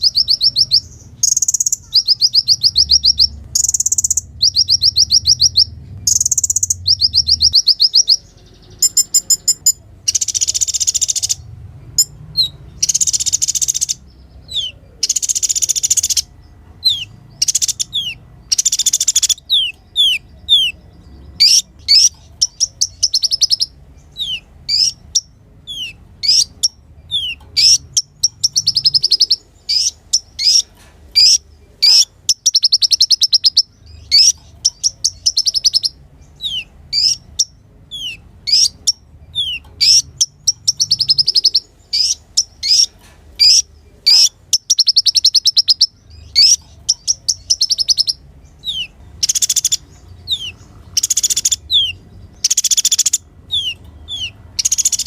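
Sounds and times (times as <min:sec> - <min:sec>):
bird singing high chirps and trills: 0:00.0 - 0:55.0.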